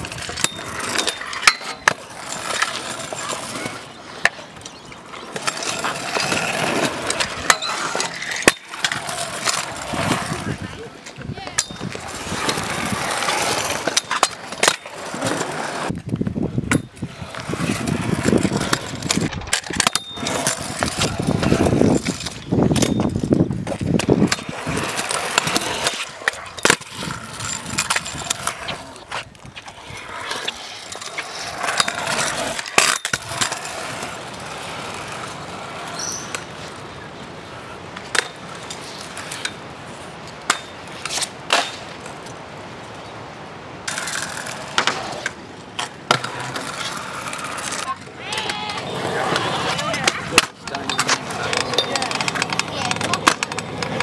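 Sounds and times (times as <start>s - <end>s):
scooter wheels rolling on concrete: 0.0s - 54.0s.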